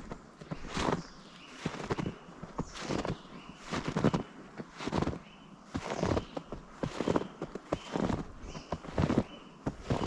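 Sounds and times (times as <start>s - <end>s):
footsteps crunching through snow: 0.0s - 10.0s.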